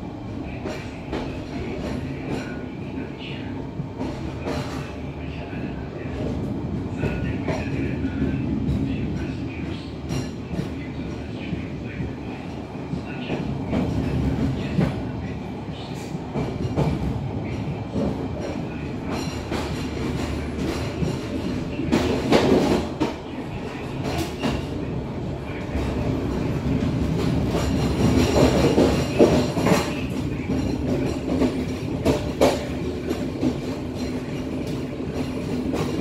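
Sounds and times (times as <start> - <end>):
train coach rumbling: 0.0 - 36.0
train wheels clicking and clanking: 0.4 - 36.0.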